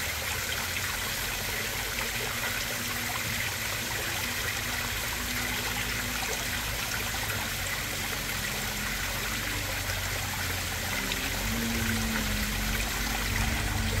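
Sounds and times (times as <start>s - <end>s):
low mechanical hum: 0.0s - 14.0s
water trickling and splashing: 0.0s - 14.0s.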